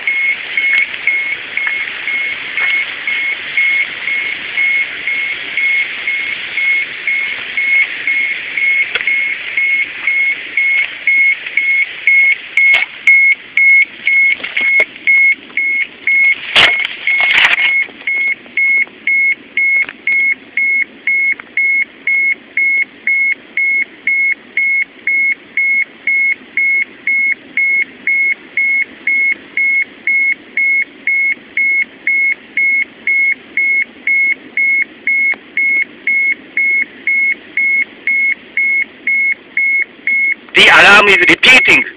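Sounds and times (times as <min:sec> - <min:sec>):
high-pitched alarm beeping: 0:00.0 - 0:41.9.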